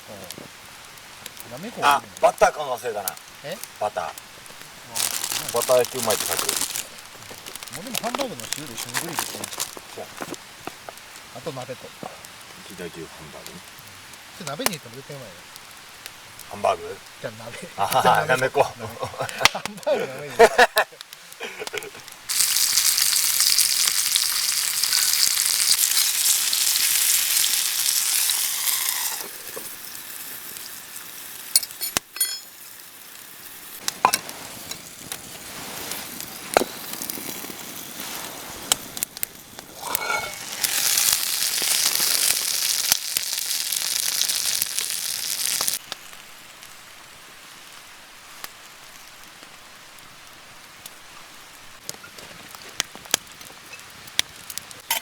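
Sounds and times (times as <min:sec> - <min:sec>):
food sizzling in a pan: 0:00.0 - 0:49.2, 0:53.7 - 0:55.0.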